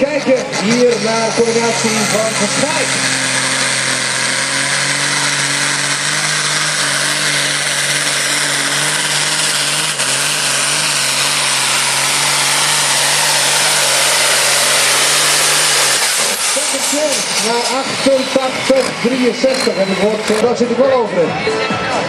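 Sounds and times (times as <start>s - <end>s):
tractor diesel engine under load: 0.0s - 21.5s.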